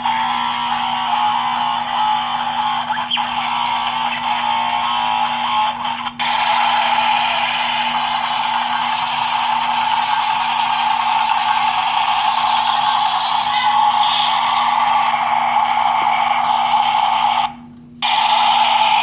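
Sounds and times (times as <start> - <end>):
toy power tool buzzing whir: 0.0 - 19.0.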